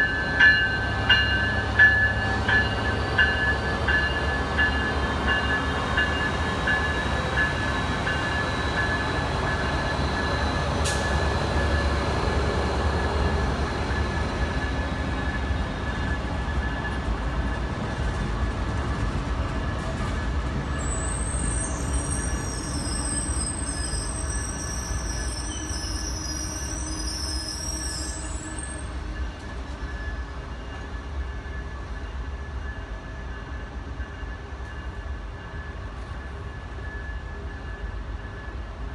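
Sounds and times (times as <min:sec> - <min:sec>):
train rumbling past: 0:00.0 - 0:38.9
train wheels squealing: 0:00.0 - 0:38.9.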